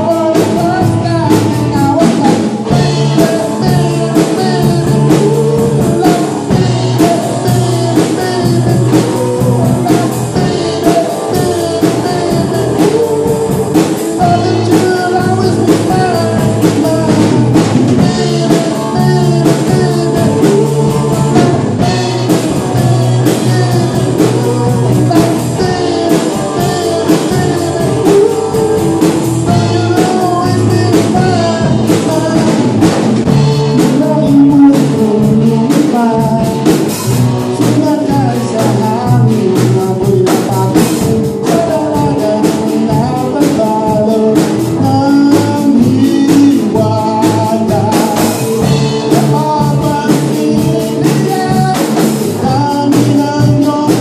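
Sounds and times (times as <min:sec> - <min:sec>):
bass guitar: 0:00.0 - 0:54.0
drum kit beat: 0:00.0 - 0:54.0
electric guitars: 0:00.0 - 0:54.0
man singing: 0:00.0 - 0:54.0.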